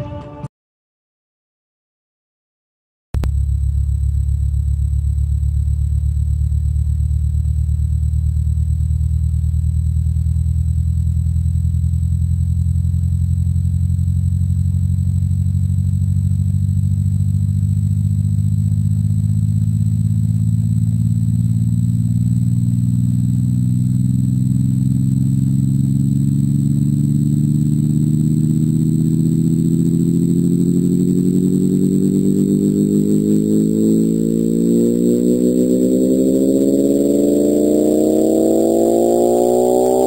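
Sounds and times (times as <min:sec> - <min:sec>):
deep rising drone: 0:03.2 - 0:40.0.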